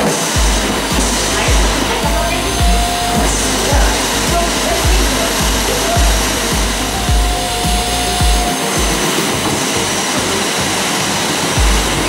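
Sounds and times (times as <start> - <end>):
music with bass beat: 0.0 - 10.8, 11.6 - 12.0
vacuum cleaner running: 0.0 - 12.0.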